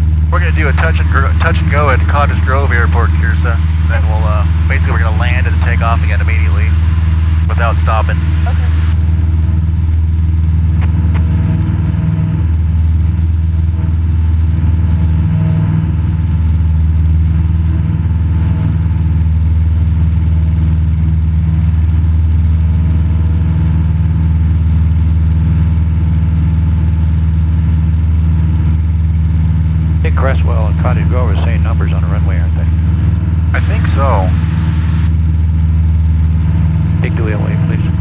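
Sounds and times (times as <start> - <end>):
propeller plane engine droning: 0.0 - 38.0.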